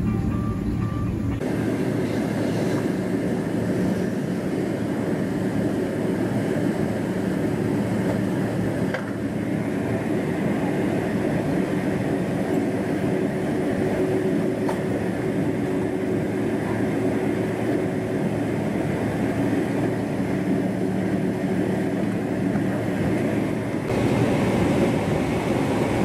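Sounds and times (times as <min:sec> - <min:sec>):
aircraft engines droning: 0:00.0 - 0:26.0
airframe rumbling on taxiway: 0:00.0 - 0:26.0.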